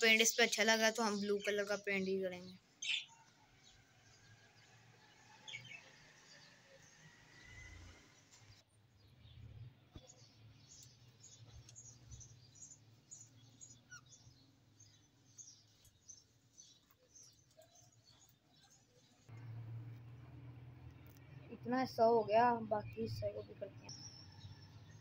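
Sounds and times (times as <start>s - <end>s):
small birds chirping faintly: 0.0s - 25.0s.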